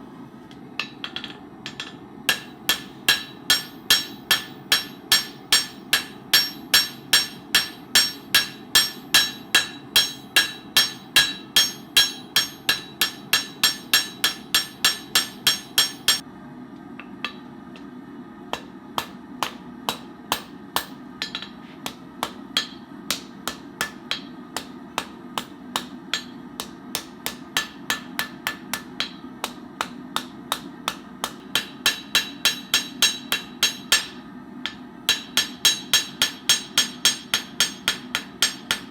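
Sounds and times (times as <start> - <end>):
hammer striking steel on anvil: 0.8 - 16.2, 17.0 - 17.9, 18.5 - 38.9.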